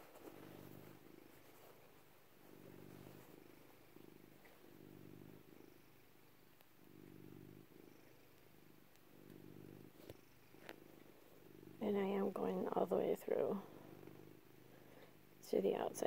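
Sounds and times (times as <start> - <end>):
cat purring softly: 0.0 - 16.0.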